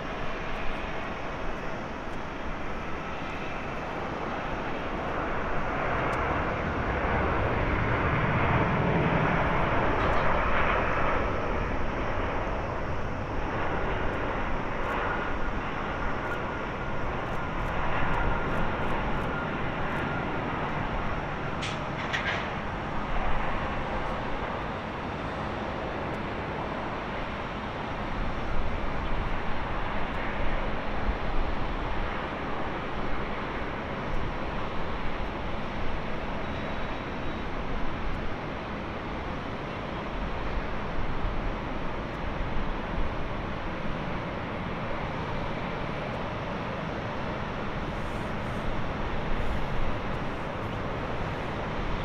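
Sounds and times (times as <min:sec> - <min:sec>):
jet engines in reverse thrust: 0:00.0 - 0:52.0.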